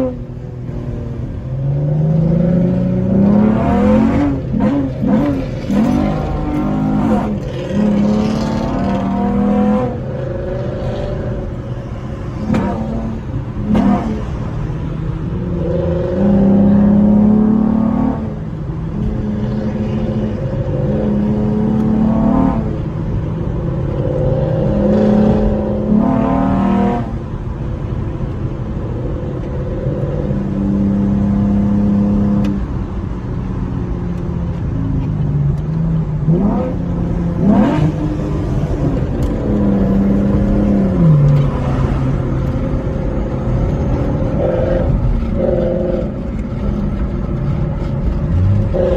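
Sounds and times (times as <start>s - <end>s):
car engine and exhaust accelerating: 0.0s - 48.9s.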